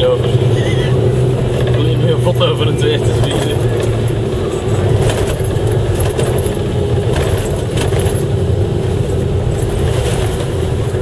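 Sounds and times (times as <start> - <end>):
vehicle engine running: 0.0 - 11.0
rattles and knocks from bumps: 1.3 - 11.0.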